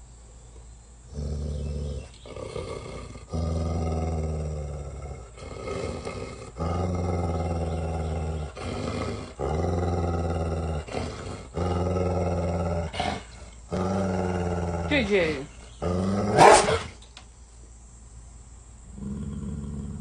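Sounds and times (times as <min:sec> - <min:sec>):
dog growling: 0:01.1 - 0:17.0, 0:18.9 - 0:20.0.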